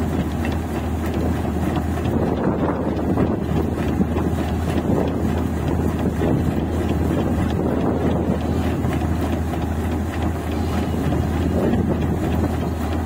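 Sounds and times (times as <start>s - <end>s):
combine harvester engine rumbling: 0.0s - 13.0s.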